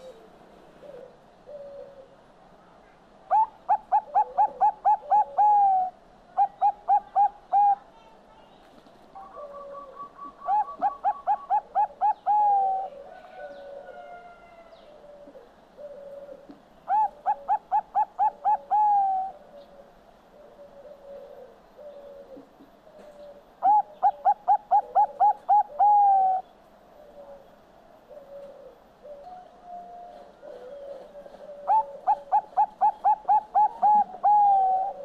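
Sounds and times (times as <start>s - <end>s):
dove cooing: 0.0s - 2.2s, 3.3s - 7.9s, 9.2s - 35.0s.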